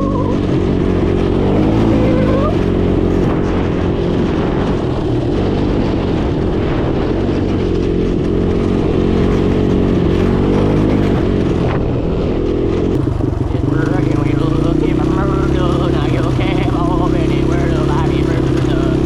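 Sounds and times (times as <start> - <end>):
small vehicle engine running: 0.0 - 19.0.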